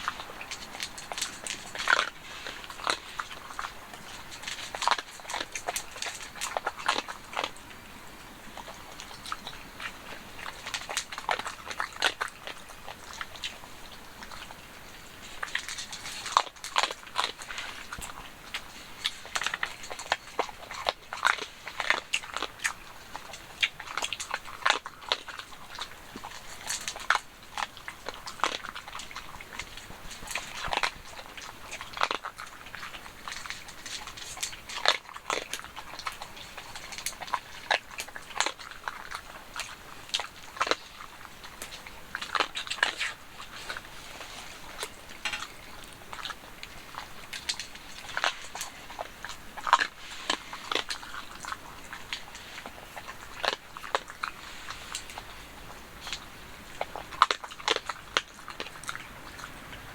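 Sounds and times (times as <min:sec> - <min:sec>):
dog chewing and crunching: 0:00.0 - 0:59.9.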